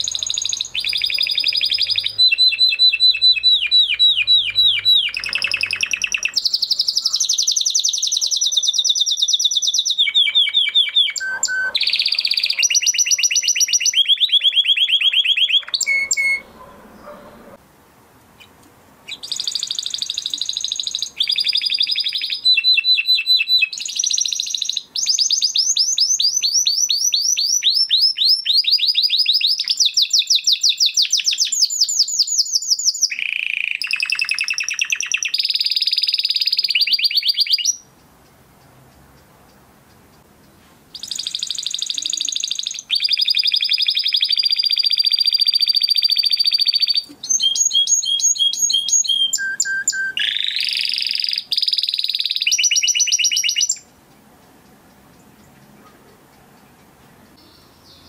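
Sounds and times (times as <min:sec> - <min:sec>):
canary singing trills: 0:00.0 - 0:17.6, 0:18.4 - 0:38.0, 0:40.5 - 0:58.0.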